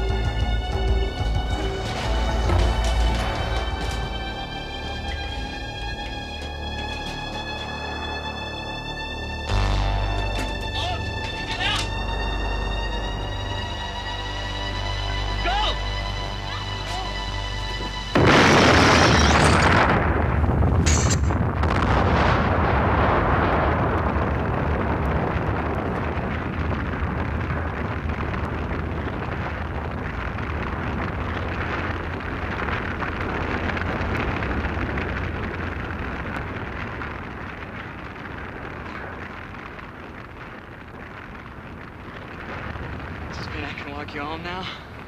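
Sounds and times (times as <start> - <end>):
explosion blasts: 0.0 - 13.8, 17.9 - 45.0
fireball rumbling: 0.0 - 45.0.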